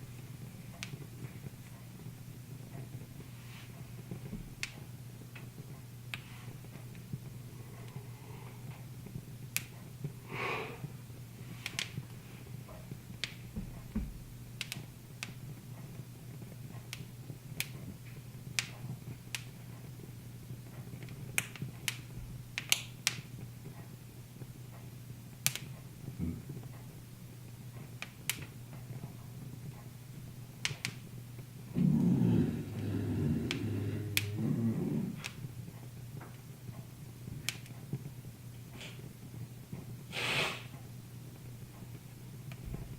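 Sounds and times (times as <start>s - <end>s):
steady low hum: 0.0s - 42.9s
wood fire crackling: 0.0s - 42.9s.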